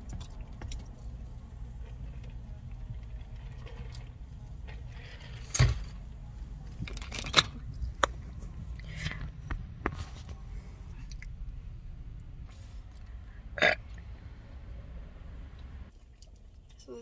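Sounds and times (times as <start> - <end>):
low cabin rumble: 0.0 - 15.9.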